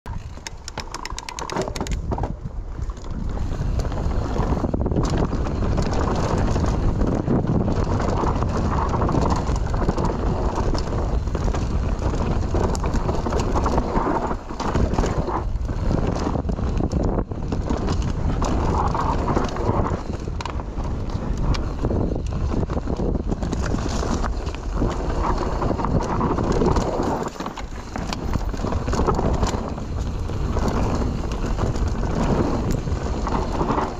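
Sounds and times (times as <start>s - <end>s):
bike rattling and knocking: 0.1s - 33.9s
bike tyres on dirt: 0.1s - 33.9s
wind on microphone: 0.1s - 33.9s.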